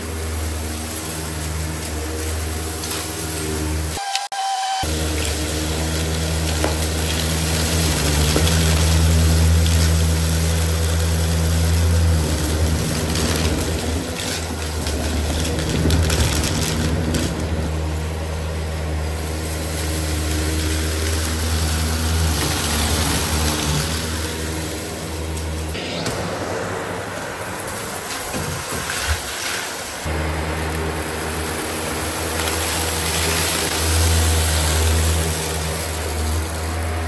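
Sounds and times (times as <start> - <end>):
vacuum cleaner running on carpet: 0.0 - 37.0.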